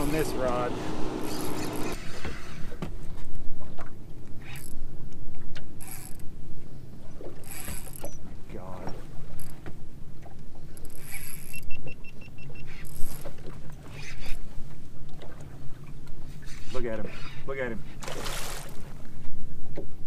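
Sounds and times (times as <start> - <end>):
boat motor rumbling: 0.0 - 20.0.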